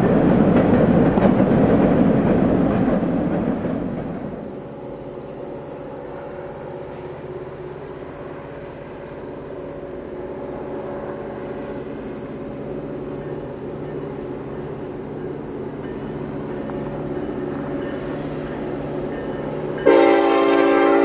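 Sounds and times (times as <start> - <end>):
distant diesel locomotive drone: 0.0 - 21.0
high-pitched whine: 0.0 - 21.0.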